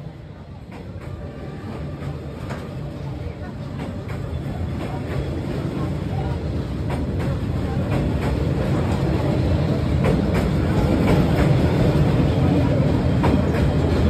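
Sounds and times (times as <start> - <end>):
train wheels rumbling on rails: 0.0 - 14.0
clicks of rail wheels: 0.2 - 14.0.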